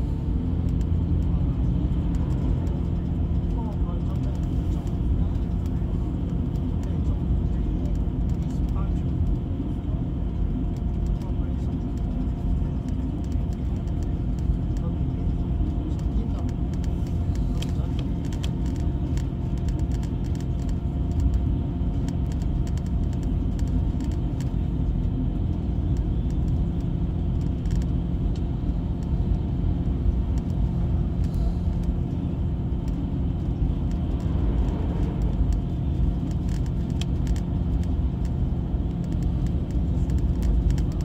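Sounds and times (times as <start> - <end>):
bus engine and road rumble: 0.0 - 41.0
constant hum: 0.0 - 41.0.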